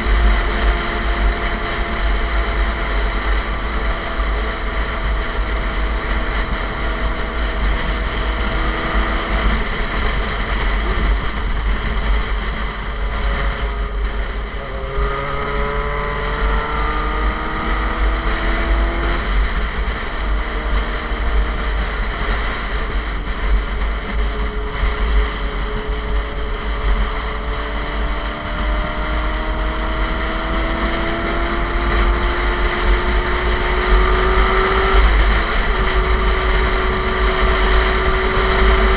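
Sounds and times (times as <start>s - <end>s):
motorcycle engine revving: 0.0s - 38.9s
wind buffeting on microphone: 0.0s - 38.9s.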